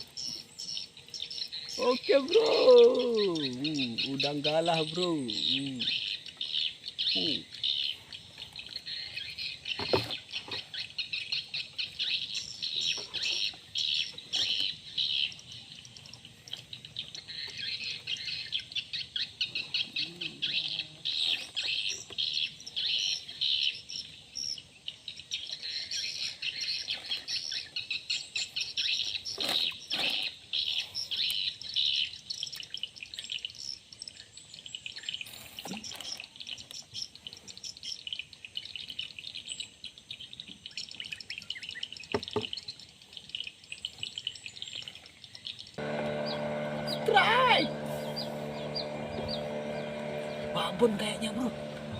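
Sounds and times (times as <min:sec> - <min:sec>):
birds chirping: 0:00.0 - 0:38.0, 0:40.2 - 0:51.9.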